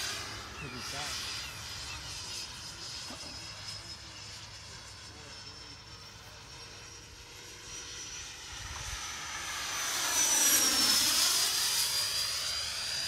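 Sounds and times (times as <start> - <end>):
model jet fan whine: 0.0 - 13.0.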